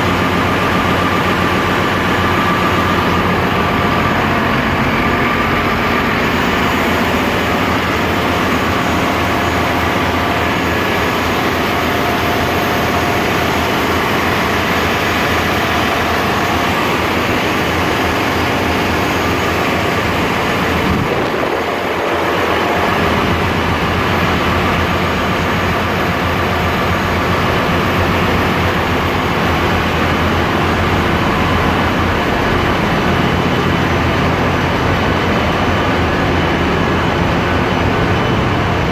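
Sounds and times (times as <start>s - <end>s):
engine room machinery rumble: 0.0s - 38.9s.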